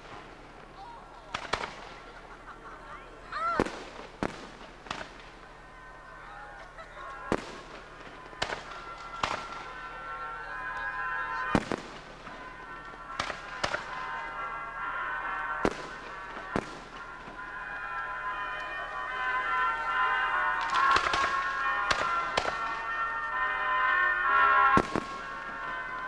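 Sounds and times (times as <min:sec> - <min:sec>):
fireworks bangs: 0:00.0 - 0:26.0
music of horn-like tones: 0:00.0 - 0:26.0.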